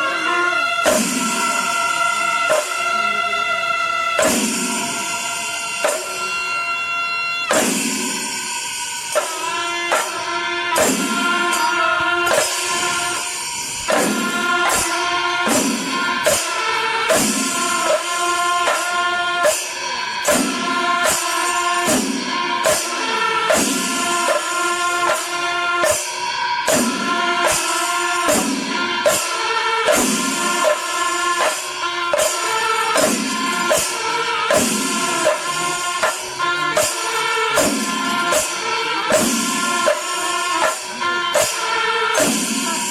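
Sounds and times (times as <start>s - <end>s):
music with percussive beat: 0.0s - 42.9s.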